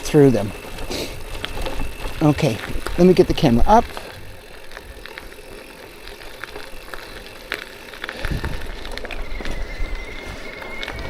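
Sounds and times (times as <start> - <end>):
bike rattling and clicking: 0.0 - 11.0
bike tyres rumbling on dirt trail: 0.0 - 11.0
thin high whine: 0.0 - 11.0.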